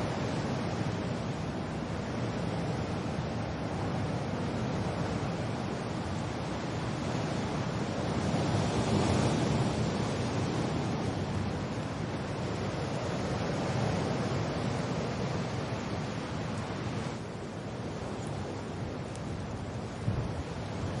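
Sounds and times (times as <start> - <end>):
wind and rain: 0.0 - 21.0.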